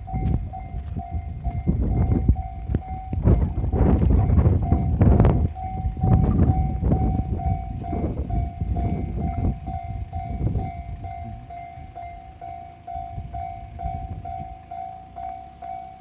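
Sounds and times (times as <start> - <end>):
wind buffeting microphone: 0.0 - 15.3
diesel train rumbling past: 0.0 - 16.0
level-crossing alarm ringing: 0.0 - 16.0.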